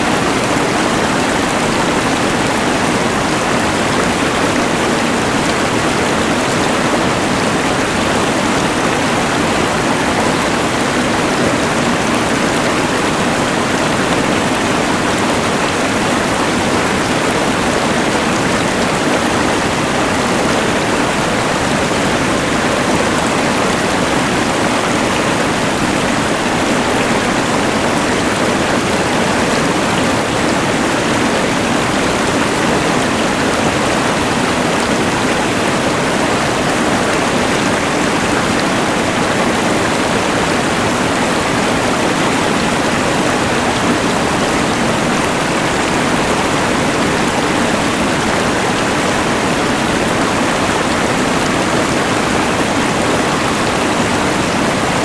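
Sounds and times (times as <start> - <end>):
rushing river: 0.0 - 55.0.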